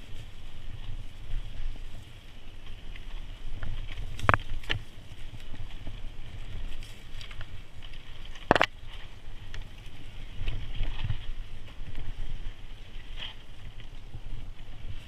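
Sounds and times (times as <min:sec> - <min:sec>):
bike rattles and clicks: 0:00.0 - 0:15.0
bike tyres rolling over gravel: 0:00.0 - 0:15.0.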